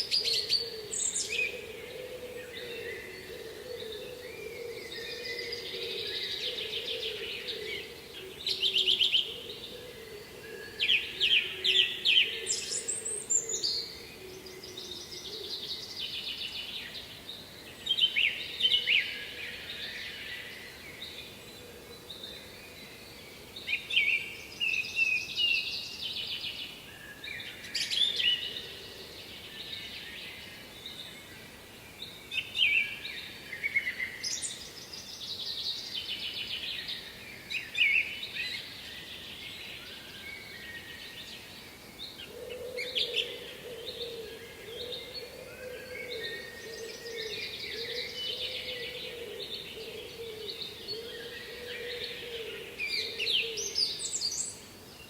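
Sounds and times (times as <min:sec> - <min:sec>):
background hiss: 0:00.0 - 0:55.0
songbirds chirping and trilling: 0:00.0 - 0:55.0.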